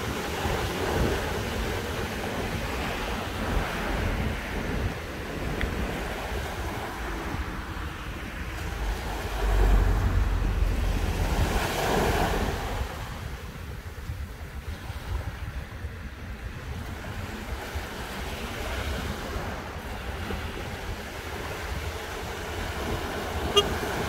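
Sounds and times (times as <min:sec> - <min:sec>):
small waves breaking on beach: 0:00.0 - 0:24.0
wind buffeting microphone: 0:00.0 - 0:24.0.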